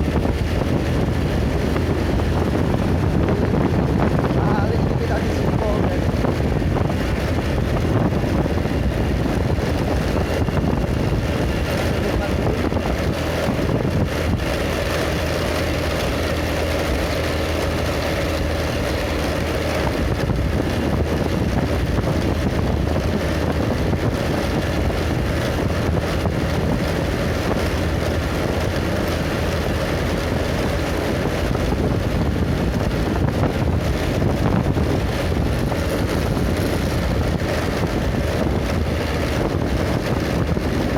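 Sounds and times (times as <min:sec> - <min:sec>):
vehicle engine running: 0:00.0 - 0:40.9
wind on microphone: 0:00.0 - 0:40.9.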